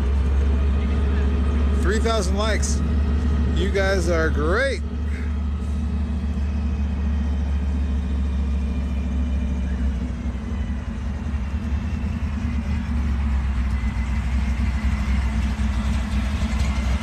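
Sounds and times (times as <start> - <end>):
car engine lumpy idle: 0.0 - 17.0.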